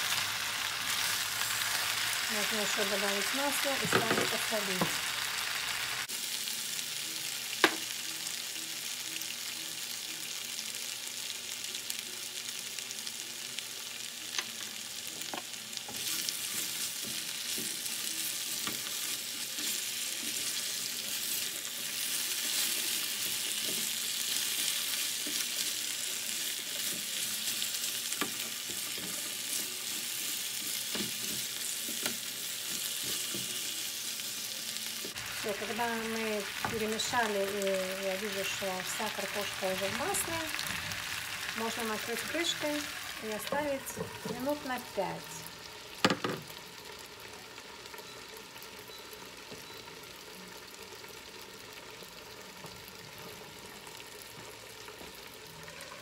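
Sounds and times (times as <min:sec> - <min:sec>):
potatoes sizzling in oil: 0:00.0 - 0:56.0.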